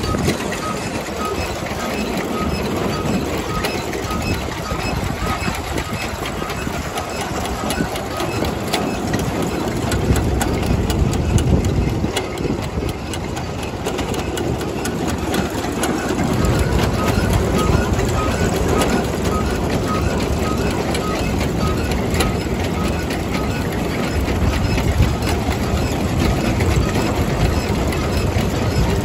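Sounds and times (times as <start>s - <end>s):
threshing machine clattering: 0.0s - 29.0s.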